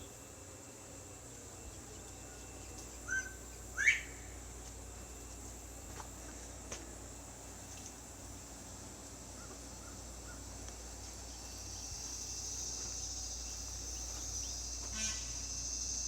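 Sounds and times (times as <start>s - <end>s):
high-pitched insect chorus: 0.0s - 6.3s, 7.0s - 16.0s.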